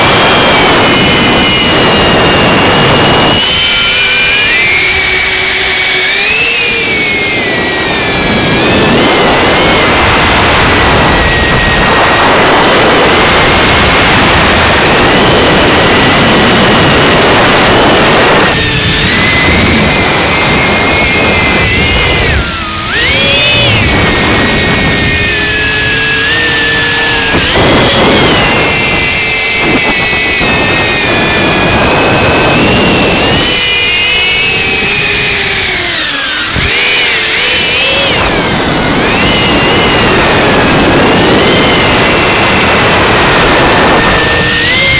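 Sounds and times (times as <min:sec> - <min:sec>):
quadcopter motors hissing and whining: 0:00.0 - 0:44.9
wind noise: 0:00.0 - 0:44.9.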